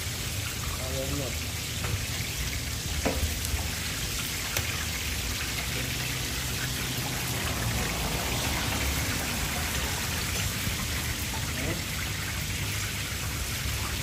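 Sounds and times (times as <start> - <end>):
kebabs sizzling in oil: 0.0 - 14.0.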